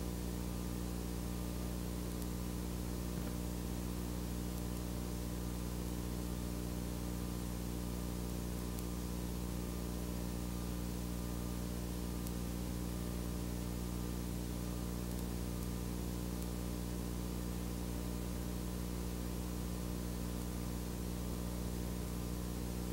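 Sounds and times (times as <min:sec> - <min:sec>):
constant hiss: 0:00.0 - 0:22.9
low electrical hum: 0:00.0 - 0:22.9.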